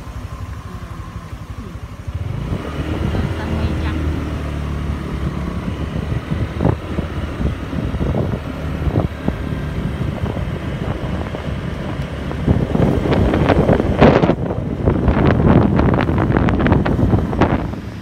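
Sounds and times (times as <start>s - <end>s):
vehicle engine running: 0.0s - 18.0s
wind buffeting microphone: 2.1s - 18.0s.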